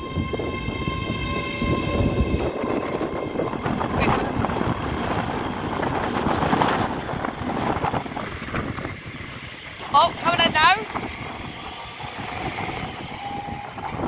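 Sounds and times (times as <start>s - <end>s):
train rumbling past: 0.0s - 14.0s
wind buffeting the microphone: 0.0s - 14.0s.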